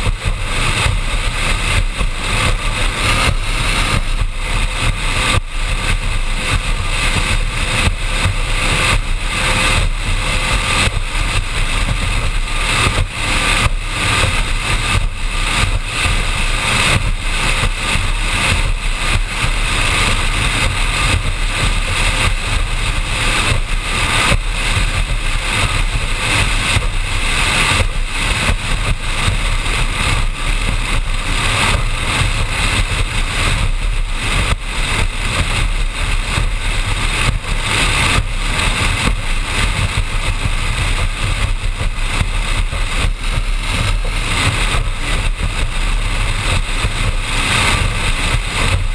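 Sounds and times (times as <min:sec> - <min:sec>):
powerboat engine drone: 0:00.0 - 0:48.9
water rushing: 0:00.0 - 0:48.9
wind noise on microphone: 0:00.0 - 0:48.9.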